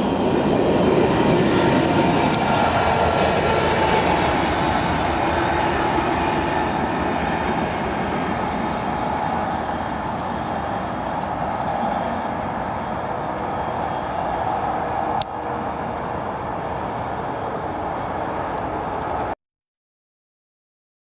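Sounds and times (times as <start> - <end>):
diesel locomotive passing: 0.0 - 19.4.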